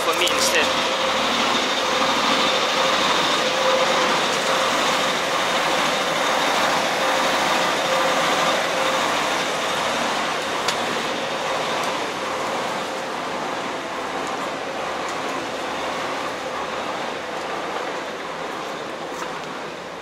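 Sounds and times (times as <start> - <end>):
railcar machinery hum and hiss: 0.0 - 20.0.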